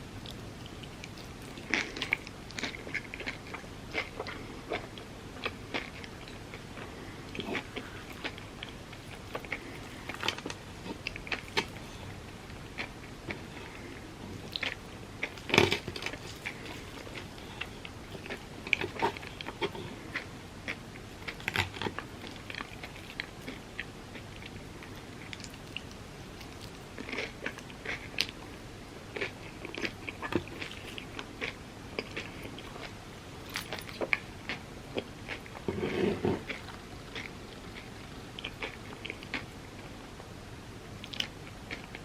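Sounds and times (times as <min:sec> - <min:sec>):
biting and chewing: 0:00.2 - 0:40.0.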